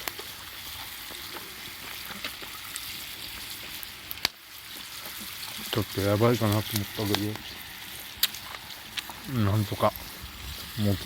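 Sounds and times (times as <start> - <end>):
food sizzling on a grill: 0.0 - 11.0
wood fire crackles: 0.0 - 11.0.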